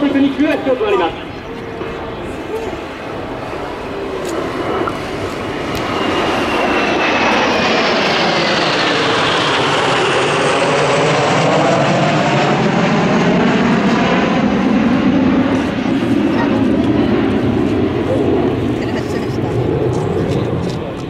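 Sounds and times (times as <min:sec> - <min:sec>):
jet aircraft flying over: 0:00.0 - 0:21.0.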